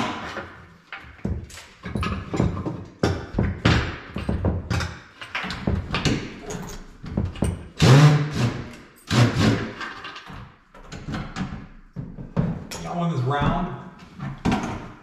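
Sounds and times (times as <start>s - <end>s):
knocking and scraping on wooden cabinet: 0.0s - 7.8s, 9.5s - 15.0s.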